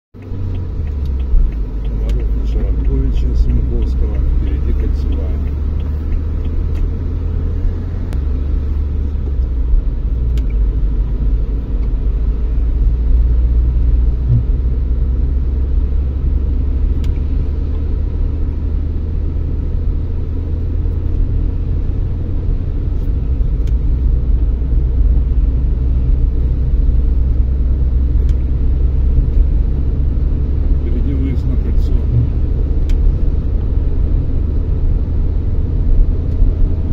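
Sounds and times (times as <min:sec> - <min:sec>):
car driving on wet road: 0:00.2 - 0:36.9.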